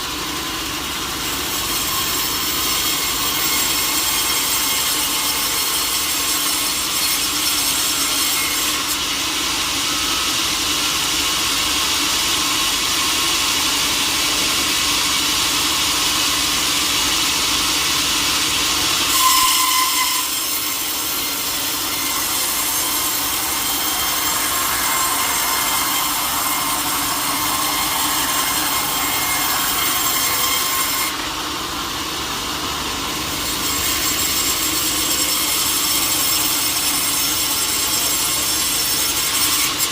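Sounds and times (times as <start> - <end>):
saw cutting through wood: 0.0 - 39.9.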